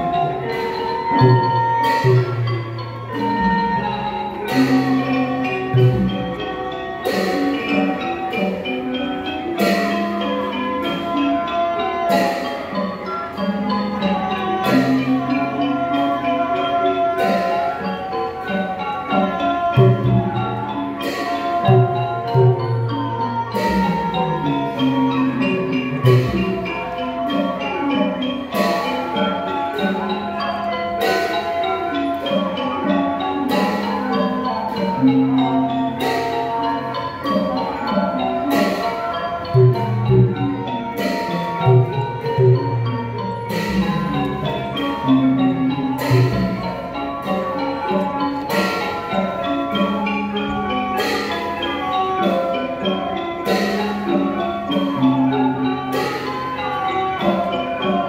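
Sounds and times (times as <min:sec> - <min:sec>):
xylophones and gongs ensemble: 0:00.0 - 0:58.0.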